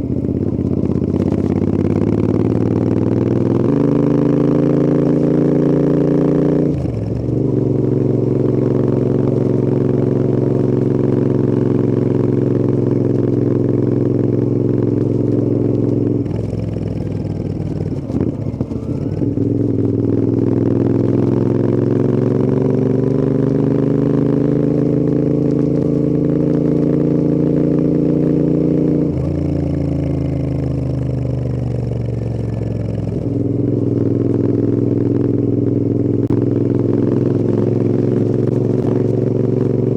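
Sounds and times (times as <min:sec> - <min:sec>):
exhaust crackle: 0:00.0 - 0:06.0, 0:06.6 - 0:39.9
motorcycle engine accelerating: 0:00.0 - 0:39.9
gear change: 0:06.6 - 0:39.9.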